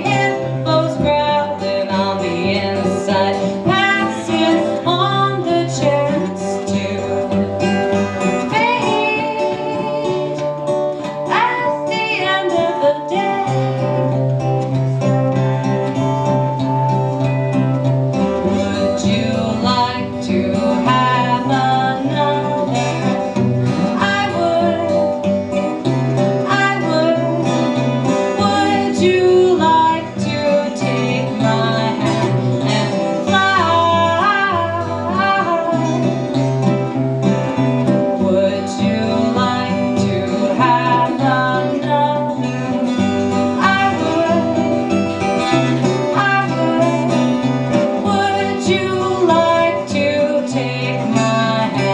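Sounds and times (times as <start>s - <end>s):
woman singing: 0.0s - 14.4s, 18.2s - 51.9s
picked guitar: 0.0s - 51.9s
strummed acoustic guitar: 0.0s - 51.9s.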